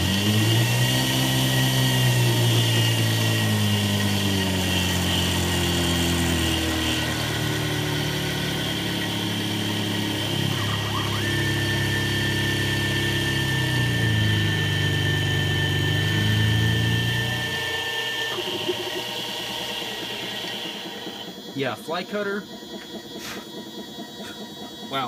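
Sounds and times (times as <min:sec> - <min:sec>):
machine hum changing pitch: 0:00.0 - 0:25.0
milling cutter high whine: 0:00.0 - 0:25.0.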